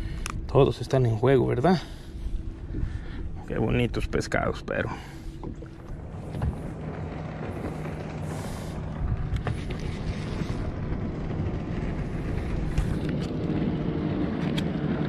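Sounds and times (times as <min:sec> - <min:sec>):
boat motor humming: 0:00.0 - 0:15.0
wind rumble on microphone: 0:00.0 - 0:15.0.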